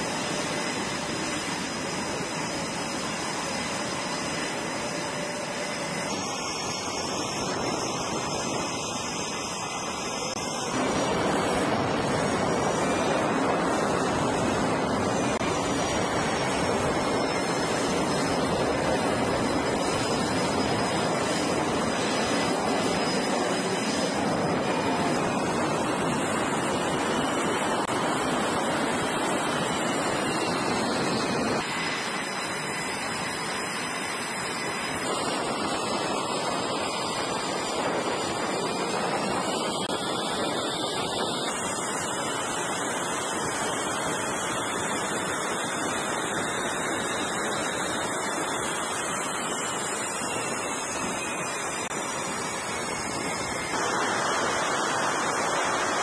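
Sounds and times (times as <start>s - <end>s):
high turbine whine: 0.0s - 56.0s
jet engines running: 0.0s - 56.0s.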